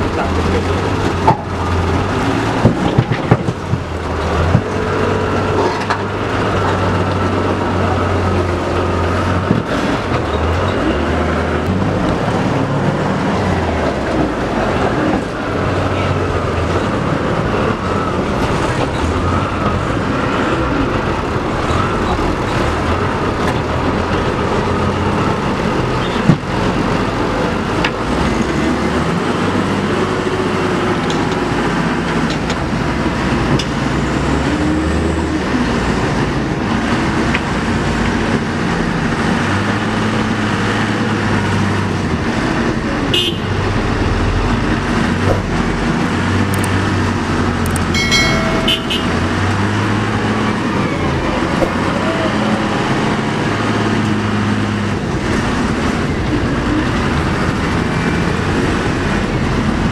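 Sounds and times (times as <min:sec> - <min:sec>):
diesel engines under load: 0:00.0 - 0:59.9.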